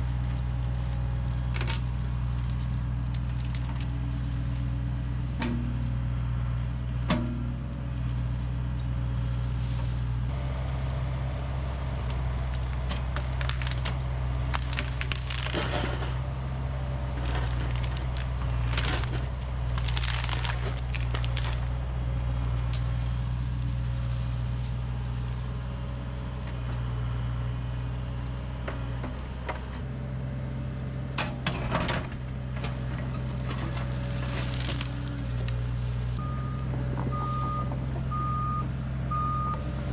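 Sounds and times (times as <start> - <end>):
logs clattering and cracking: 0.0 - 29.9, 31.1 - 39.9
diesel engine running: 0.0 - 39.9.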